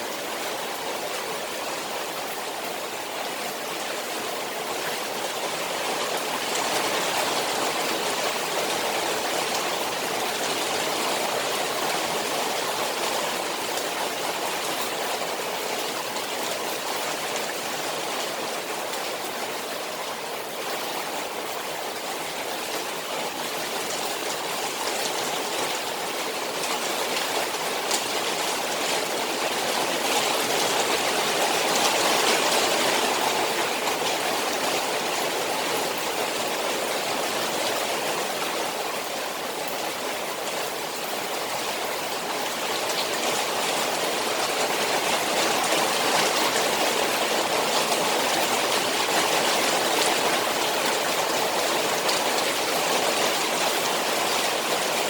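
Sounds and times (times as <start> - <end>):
rain falling on a pond: 0.0 - 55.0.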